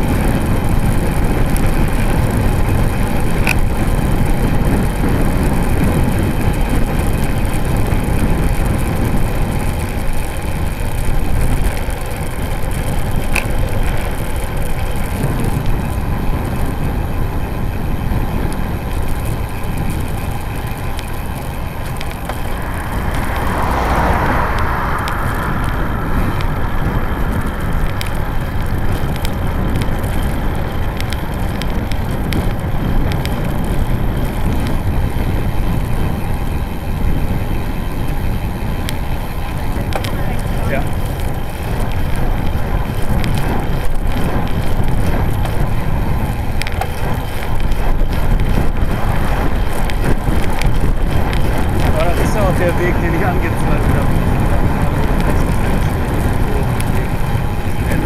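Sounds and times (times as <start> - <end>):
bike tyres rolling on asphalt: 0.0 - 58.0
wind rumble on microphone: 0.0 - 58.0.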